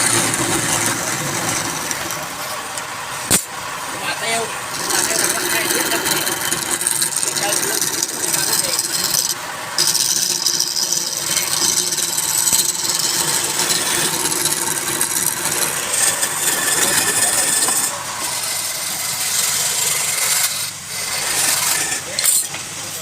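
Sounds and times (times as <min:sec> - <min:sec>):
lathe motor hum: 0:00.0 - 0:23.0
lathe tool scraping wood: 0:00.0 - 0:23.0.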